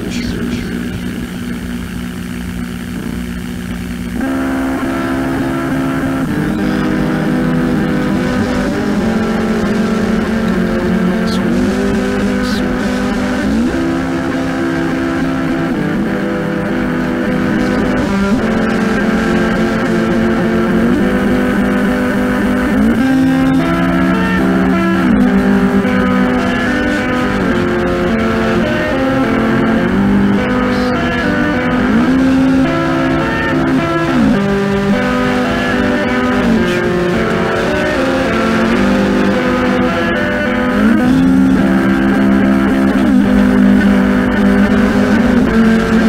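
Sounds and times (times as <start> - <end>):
droning guitar chords: 0.0 - 46.0
sliding pitch notes: 0.0 - 46.0
tape hiss: 0.0 - 46.0.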